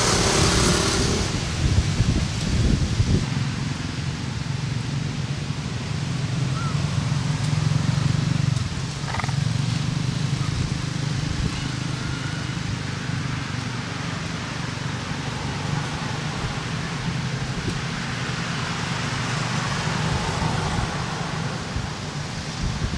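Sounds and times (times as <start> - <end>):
low engine hum: 0.0 - 22.9.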